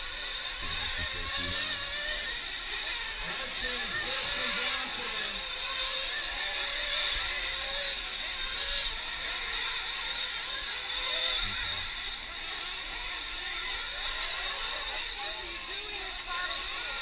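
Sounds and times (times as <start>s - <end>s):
rc truck engines whining: 0.0s - 17.0s.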